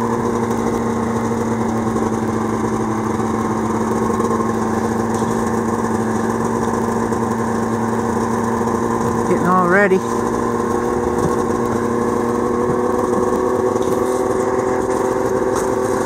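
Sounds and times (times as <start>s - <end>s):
snowmobile engine idling: 0.0s - 16.0s.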